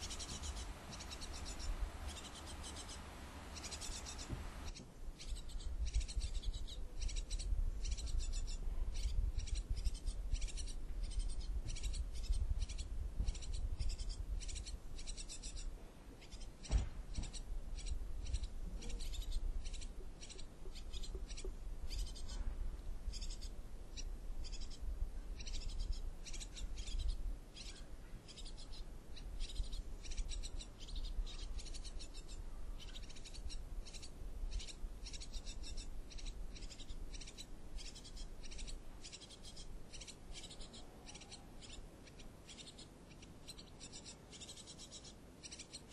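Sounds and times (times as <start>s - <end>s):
nestlings begging calls: 0.0s - 22.4s, 23.1s - 24.8s, 25.4s - 45.9s.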